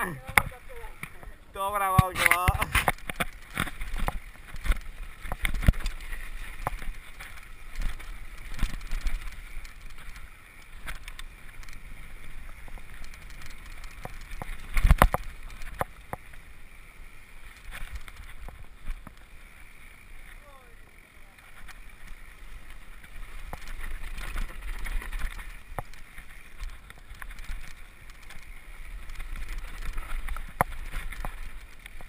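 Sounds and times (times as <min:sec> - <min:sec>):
bike rattling over rocks: 0:00.0 - 0:32.0.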